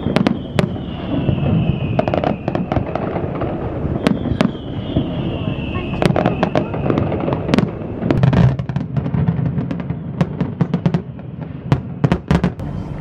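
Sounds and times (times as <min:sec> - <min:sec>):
firework bangs and crackling: 0:00.0 - 0:13.0
whistling firework shell: 0:00.0 - 0:13.0.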